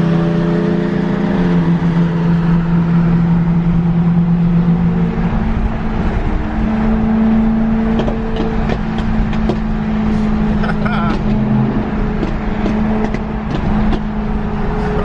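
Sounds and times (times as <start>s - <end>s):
car engine droning: 0.0s - 15.0s
road rumble: 0.0s - 15.0s.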